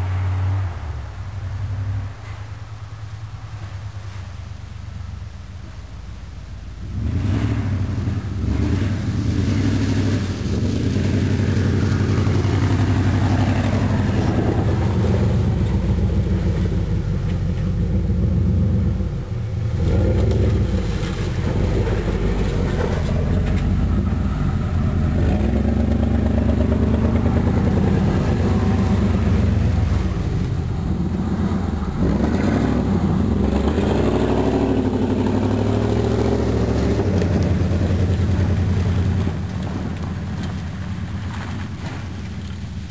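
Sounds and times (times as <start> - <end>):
truck engine revving: 6.8 - 42.1.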